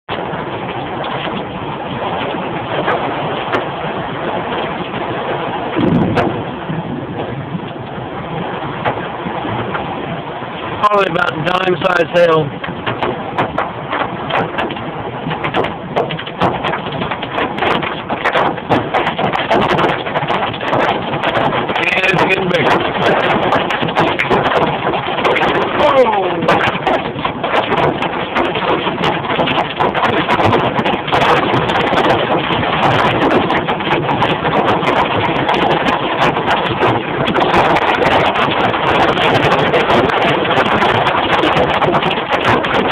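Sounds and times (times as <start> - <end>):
hail clattering on car roof: 0.1 - 42.9.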